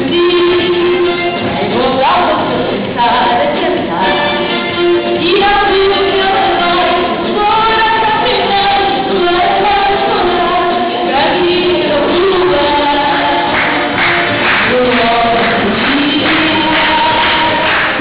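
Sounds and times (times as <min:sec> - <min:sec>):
woman singing into a microphone: 0:00.0 - 0:04.4, 0:05.1 - 0:18.0.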